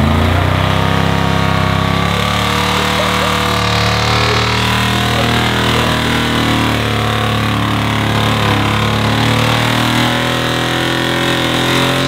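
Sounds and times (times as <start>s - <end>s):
pickup truck engine running: 0.0s - 12.0s.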